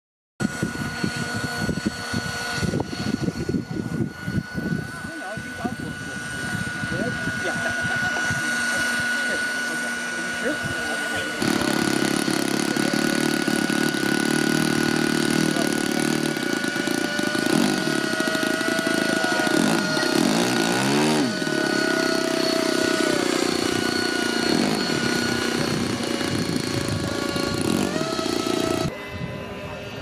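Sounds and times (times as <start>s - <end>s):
model helicopter engine and rotor: 0.4s - 30.0s.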